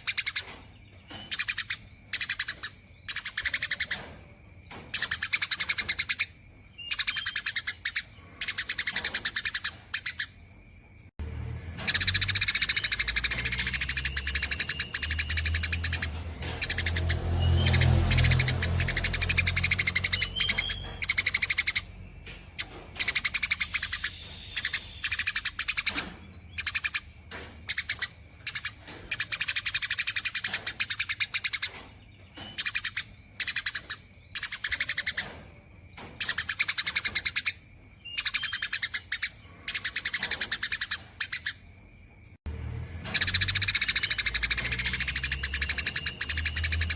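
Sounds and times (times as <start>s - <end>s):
sparrow chattering: 0.0s - 11.1s, 11.8s - 41.7s, 43.1s - 46.9s.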